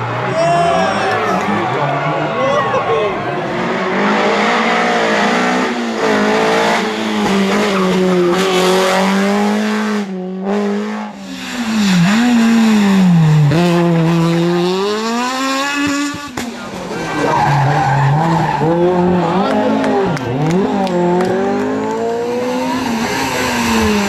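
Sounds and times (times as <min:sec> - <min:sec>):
rally car engines revving: 0:00.0 - 0:24.0.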